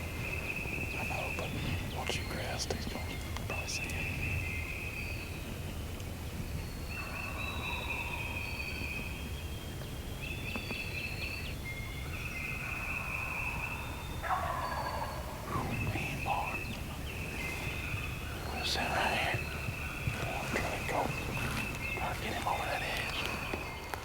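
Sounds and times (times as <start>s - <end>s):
songbirds trilling: 0.0s - 24.0s
wind rumble on microphone: 0.0s - 24.0s.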